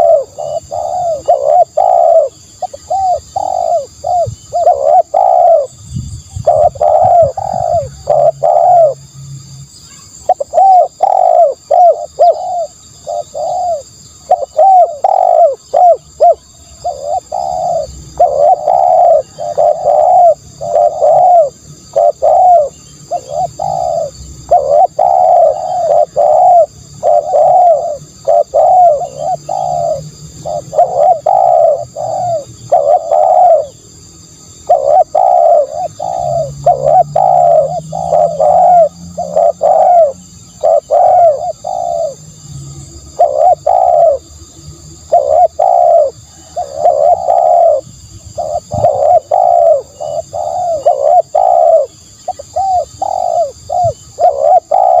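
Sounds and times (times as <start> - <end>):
doves cooing: 0.0 - 9.1, 10.2 - 55.0.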